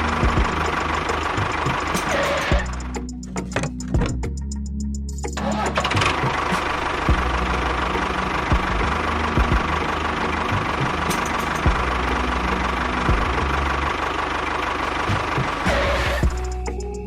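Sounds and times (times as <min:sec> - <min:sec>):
small engine running: 0:00.0 - 0:03.9, 0:05.3 - 0:17.0.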